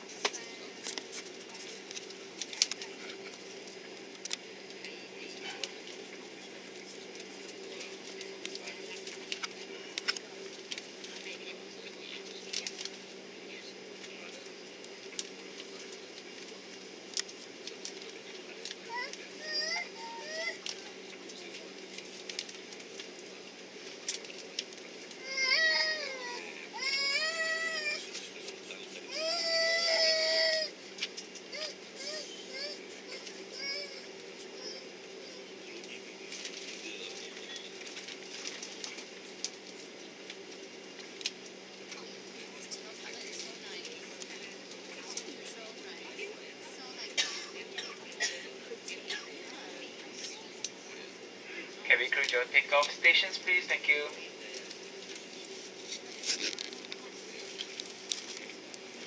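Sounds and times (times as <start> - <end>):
airplane cabin hum: 0.0 - 59.0
faint passenger sounds: 0.0 - 59.0.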